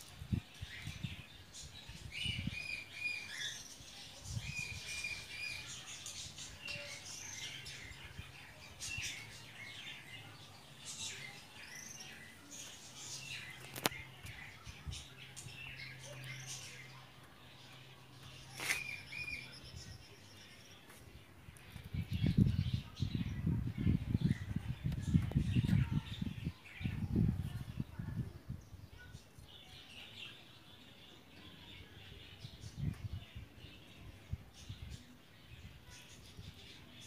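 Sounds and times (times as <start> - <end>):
songbirds chirping and singing: 0.0 - 37.0.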